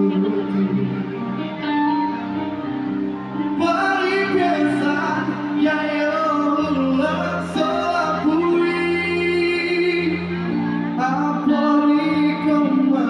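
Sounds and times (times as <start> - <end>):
person singing: 0.0 - 2.2, 3.4 - 13.0
live band playing song: 0.0 - 13.0.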